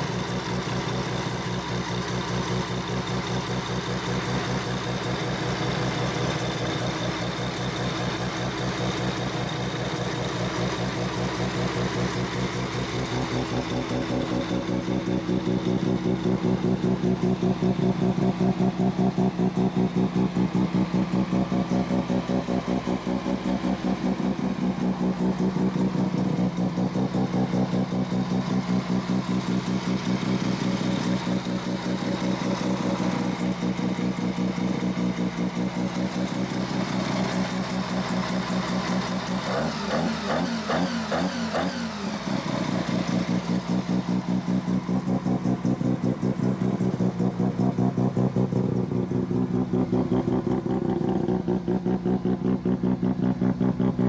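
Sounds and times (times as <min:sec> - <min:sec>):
rotary race engine idling and revving: 0:00.0 - 0:54.0.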